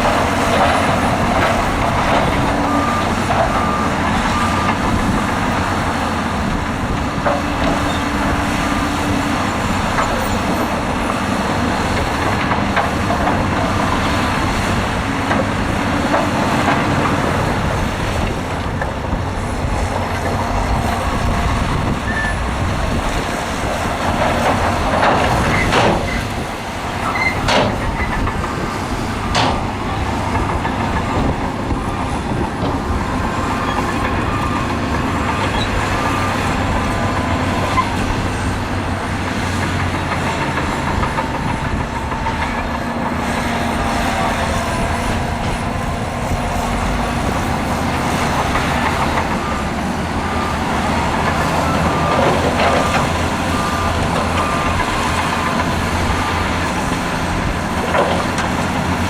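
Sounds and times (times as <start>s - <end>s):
diesel engines running under load: 0.0s - 59.0s.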